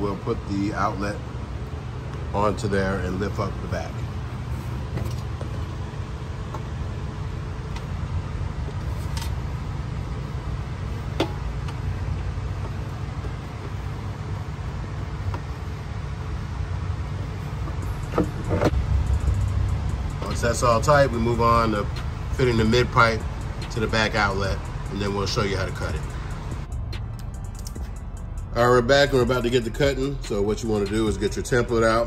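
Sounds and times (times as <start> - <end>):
low background rumble: 0.0 - 32.0.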